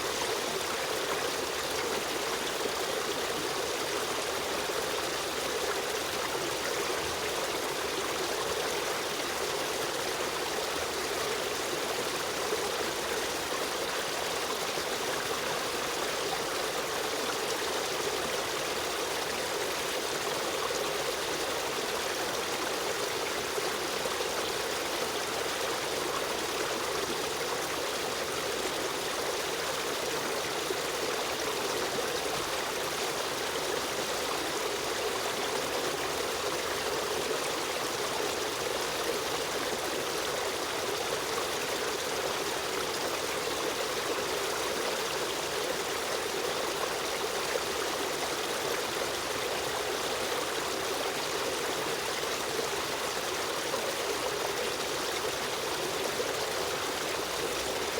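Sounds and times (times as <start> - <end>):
stream flowing water: 0.0 - 57.9.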